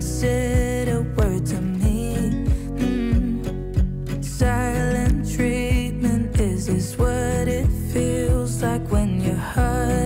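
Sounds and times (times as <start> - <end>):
steady drum beat: 0.0 - 9.8
guitar: 0.0 - 10.0.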